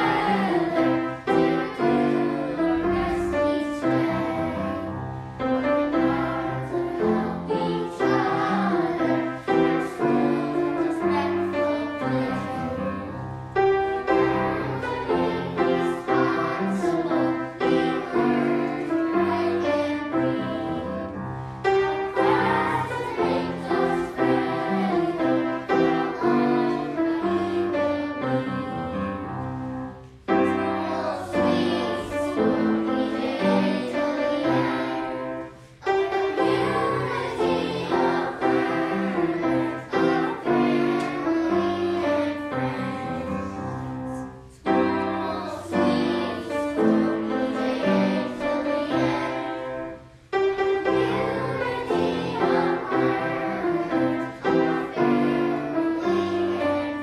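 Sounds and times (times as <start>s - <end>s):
choir singing: 0.0s - 57.0s
piano accompaniment: 0.0s - 57.0s.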